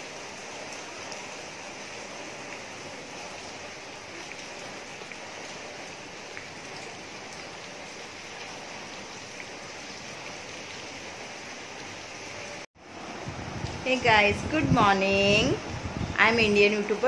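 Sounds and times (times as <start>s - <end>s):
heavy rain on water and plants: 0.0s - 17.0s.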